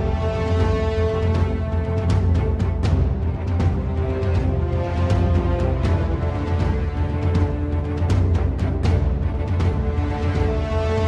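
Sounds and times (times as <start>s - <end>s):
dramatic soundtrack music: 0.0s - 11.0s.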